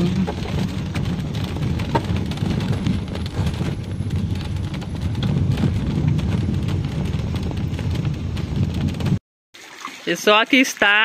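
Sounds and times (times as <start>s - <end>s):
car engine and tyre rumble: 0.0s - 9.2s
light knocks and rattles: 0.1s - 9.2s.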